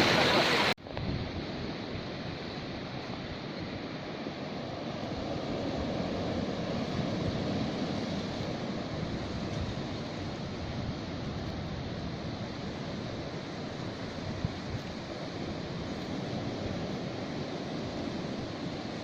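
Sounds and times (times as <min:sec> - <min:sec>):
sea surf washing onto shore: 0:00.0 - 0:19.0.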